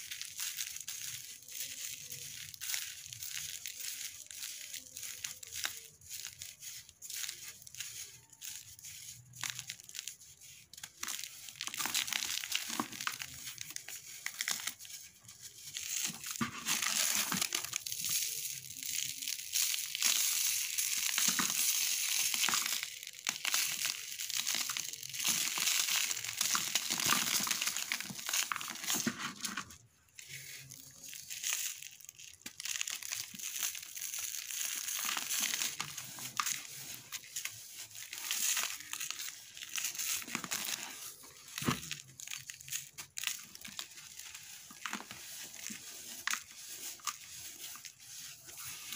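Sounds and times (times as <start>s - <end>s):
sand and cement ball crumbling: 0.0s - 48.9s.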